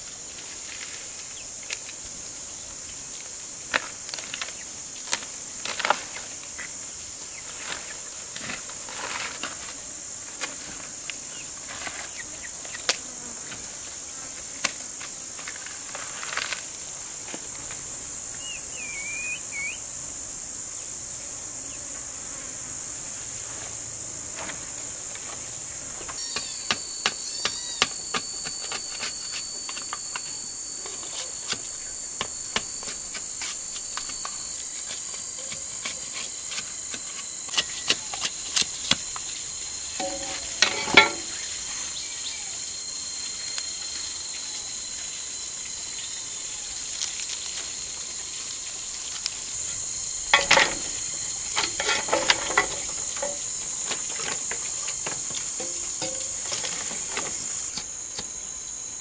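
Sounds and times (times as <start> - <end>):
high-pitched insect drone: 0.0 - 59.0
lower insect tone: 0.0 - 59.0.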